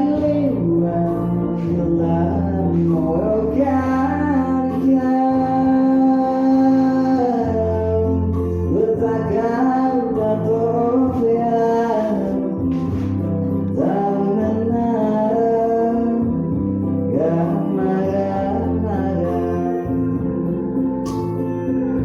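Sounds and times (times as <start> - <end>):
instrumental backing: 0.0 - 22.0.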